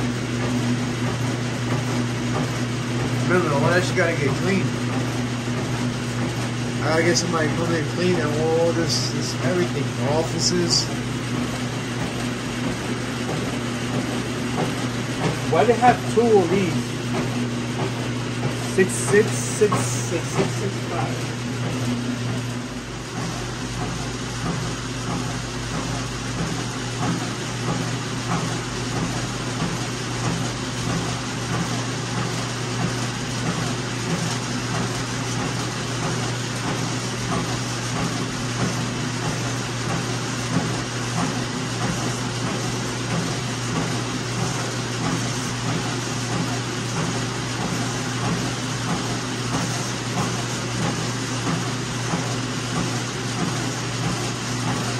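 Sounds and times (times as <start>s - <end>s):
machine hum and whir: 0.0s - 54.9s.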